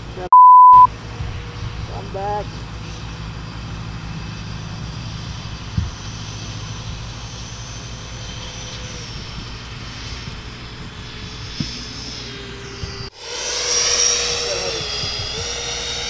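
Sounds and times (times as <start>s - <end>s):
electric ducted fans whining: 0.9s - 16.0s.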